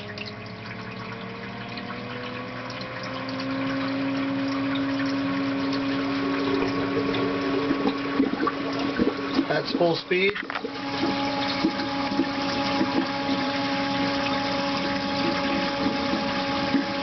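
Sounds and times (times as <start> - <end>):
pump motor whirring: 0.0 - 17.0
water rushing through pipes: 0.0 - 17.0.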